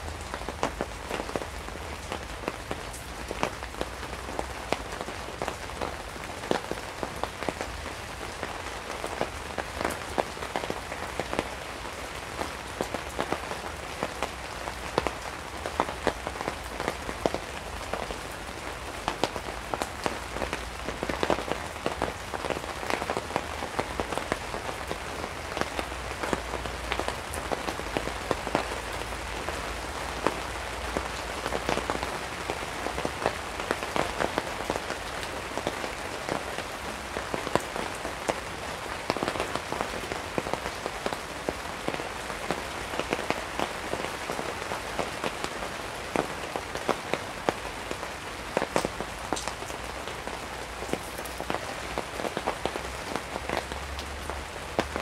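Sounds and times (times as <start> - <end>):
rain falling on a tarp: 0.0 - 55.0.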